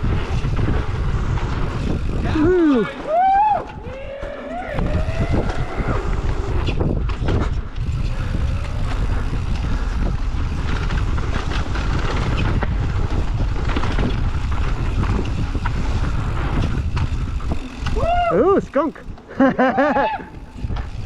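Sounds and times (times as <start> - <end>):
bike rattling over bumps: 0.0 - 21.0
bike tyres rumbling on dirt: 0.0 - 21.0
wind buffeting microphone: 0.0 - 21.0.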